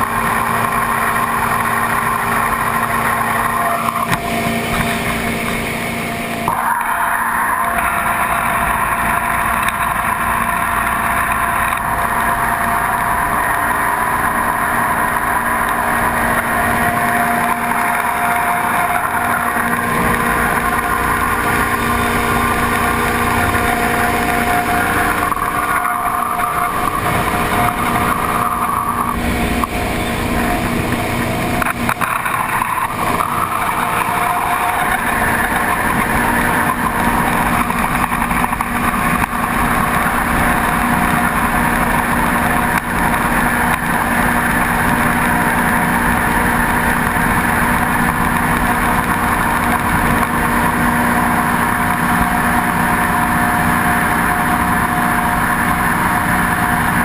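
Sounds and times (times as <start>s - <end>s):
boat engine running at speed: 0.0s - 57.0s.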